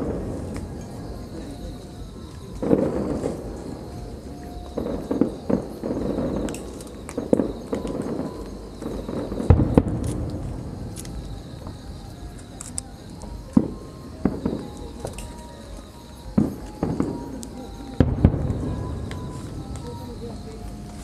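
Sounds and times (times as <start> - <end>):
fireworks bangs with echo: 0.0 - 21.0.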